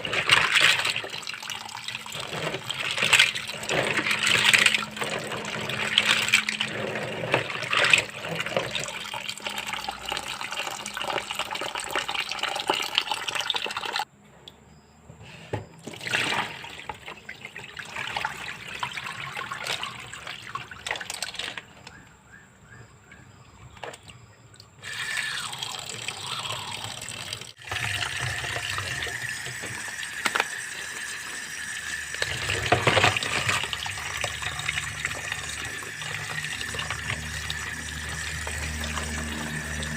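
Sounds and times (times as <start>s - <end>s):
tap water running and splashing: 0.0s - 14.1s, 15.8s - 21.7s, 24.8s - 39.9s.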